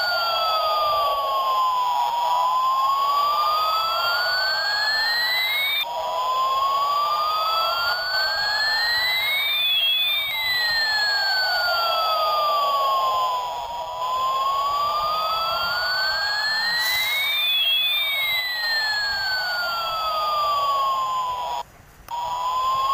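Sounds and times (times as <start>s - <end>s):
electronic siren-like wail: 0.0s - 22.9s.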